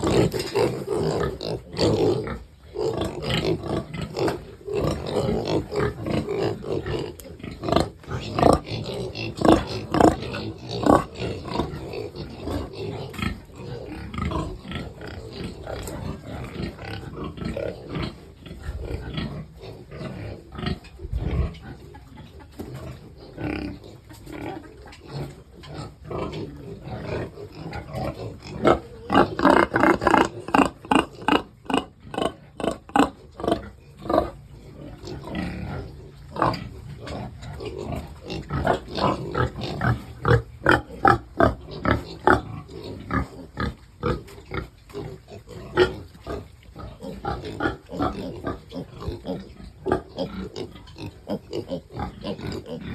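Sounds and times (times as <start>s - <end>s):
pigs grunting: 0.0s - 52.9s.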